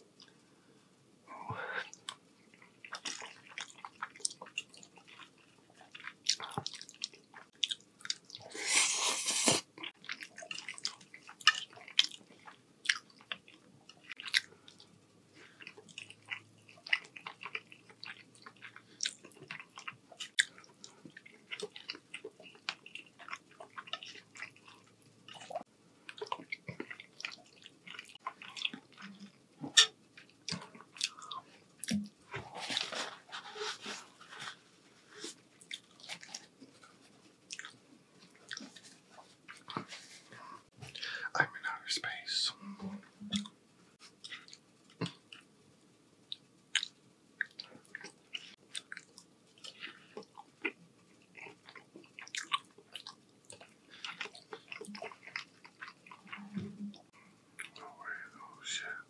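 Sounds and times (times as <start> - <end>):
chewing with mouth clicks: 1.9 - 8.5, 9.8 - 34.5, 35.2 - 41.1, 43.2 - 45.5, 46.3 - 59.0.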